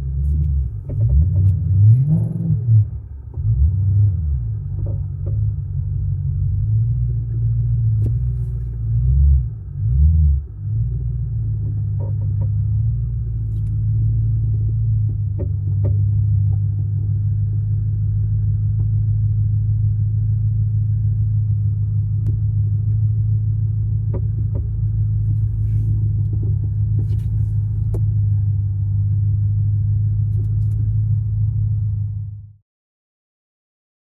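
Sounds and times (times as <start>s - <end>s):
car engine rumbling: 0.0s - 32.6s.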